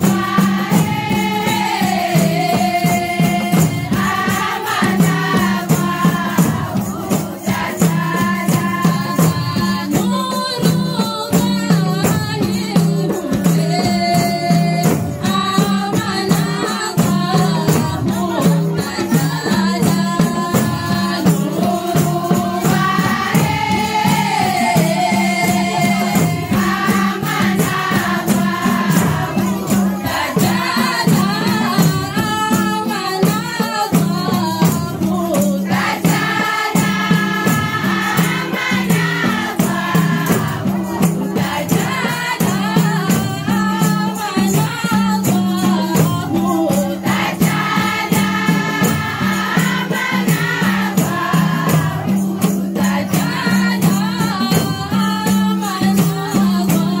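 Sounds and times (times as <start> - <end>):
frame drums beat: 0.0 - 57.0
tambourine jingling: 0.0 - 57.0
women singing together: 0.0 - 57.0.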